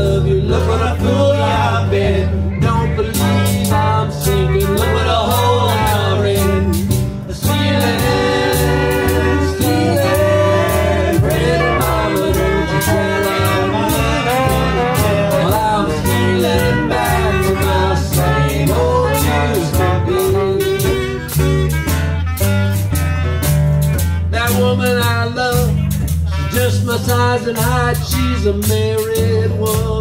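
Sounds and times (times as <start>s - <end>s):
strummed acoustic guitar: 0.0s - 30.0s
walking upright bass: 0.0s - 30.0s
clarinet and brass horns melody: 3.0s - 24.9s, 25.8s - 29.1s.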